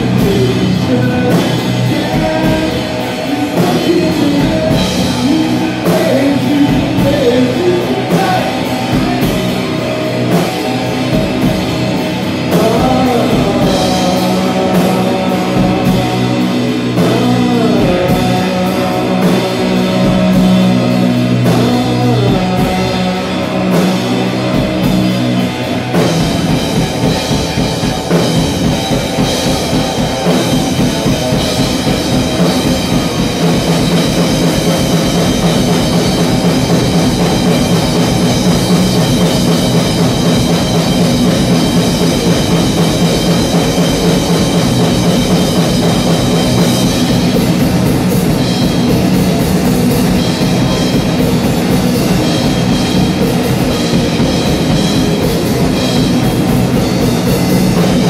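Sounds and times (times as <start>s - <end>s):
heavy rock music: 0.0s - 58.0s.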